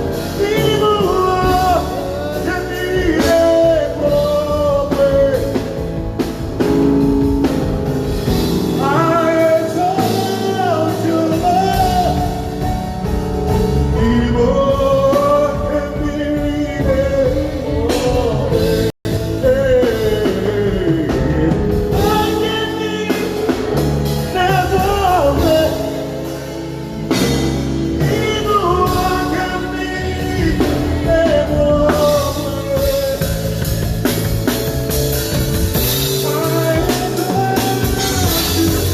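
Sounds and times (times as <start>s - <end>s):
drum kit beat: 0.0s - 38.9s
lead singer singing: 0.0s - 38.9s
live band playing: 0.0s - 38.9s.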